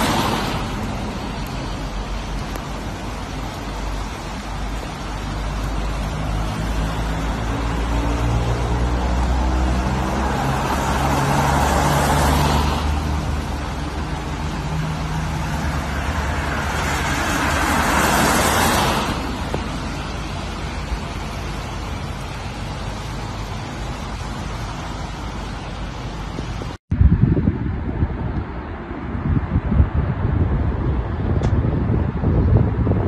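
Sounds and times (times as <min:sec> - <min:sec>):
steady rain: 0:00.0 - 0:26.8
tyres hissing on wet road: 0:00.0 - 0:26.8.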